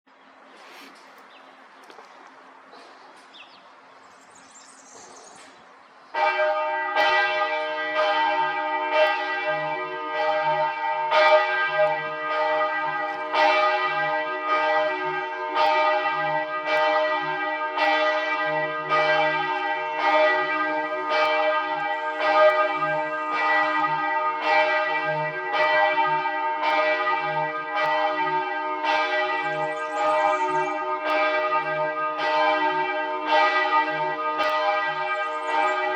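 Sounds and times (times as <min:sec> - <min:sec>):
church bells ringing: 0:06.1 - 0:35.9.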